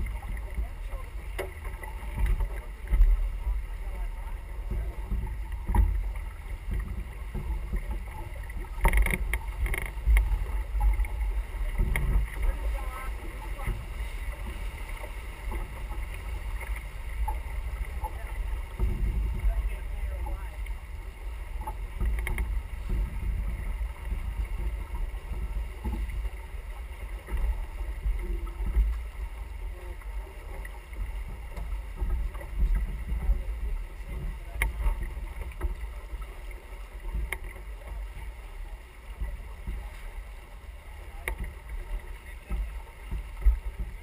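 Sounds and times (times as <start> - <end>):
water rushing along hull: 0.0 - 44.0.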